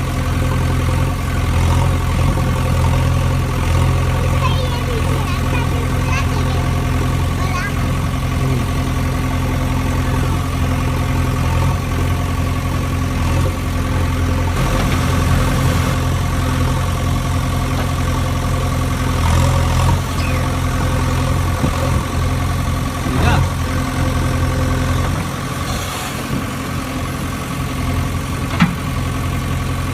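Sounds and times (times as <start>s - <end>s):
diesel engine idling: 0.0s - 29.9s.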